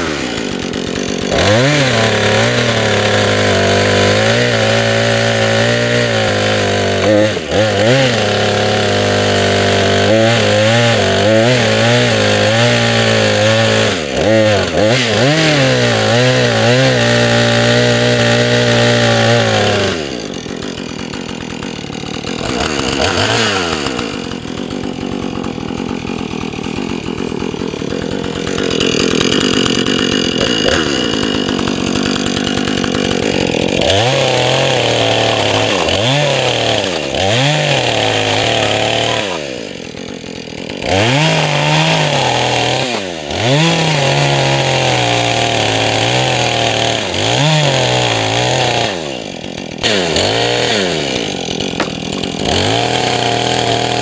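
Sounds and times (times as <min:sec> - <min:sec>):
chainsaw running: 0:00.0 - 0:54.0.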